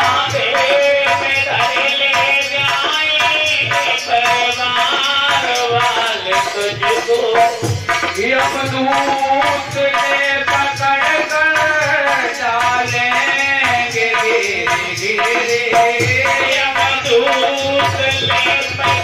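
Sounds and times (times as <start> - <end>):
hand drum beats: 0.0 - 19.0
man singing into microphone: 0.0 - 19.0.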